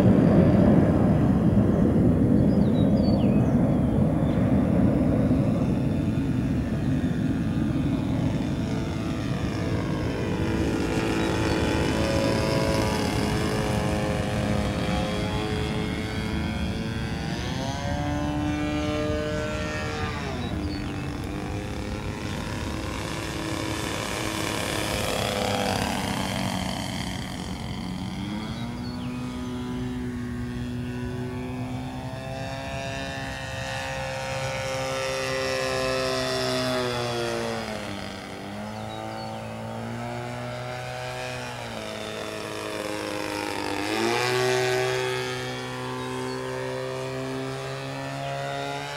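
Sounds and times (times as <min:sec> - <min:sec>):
model plane engine in flight: 0:00.0 - 0:48.9.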